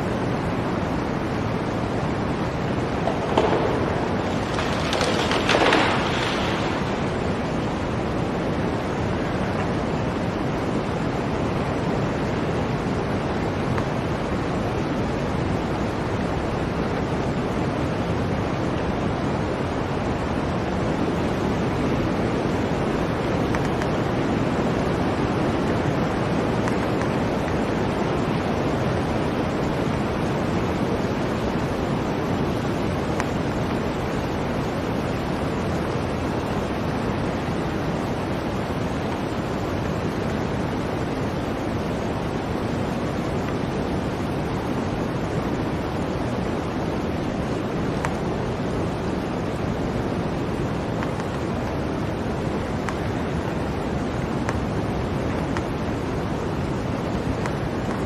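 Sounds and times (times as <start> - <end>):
blizzard wind rushing: 0.0 - 58.0.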